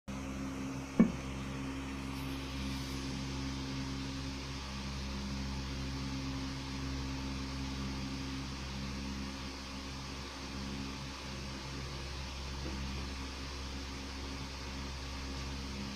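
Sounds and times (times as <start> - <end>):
low hum with faint hiss: 0.1 - 15.9.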